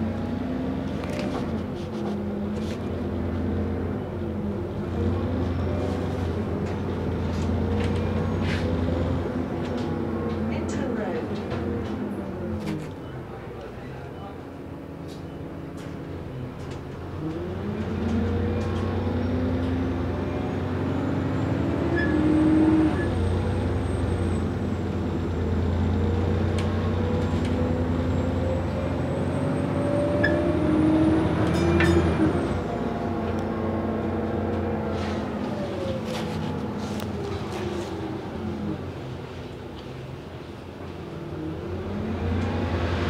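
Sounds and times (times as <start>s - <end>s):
bus engine accelerating: 0.0s - 43.0s.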